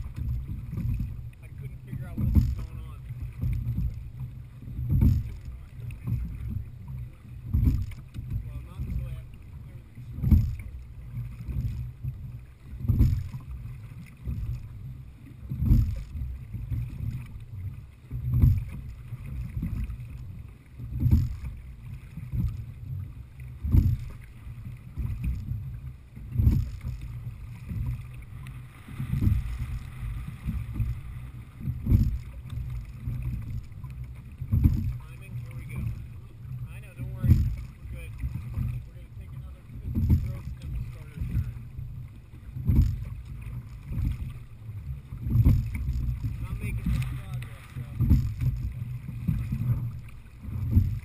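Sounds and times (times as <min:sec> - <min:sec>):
oar strokes in water: 0:00.0 - 0:51.0
steady low rumble: 0:00.0 - 0:51.0.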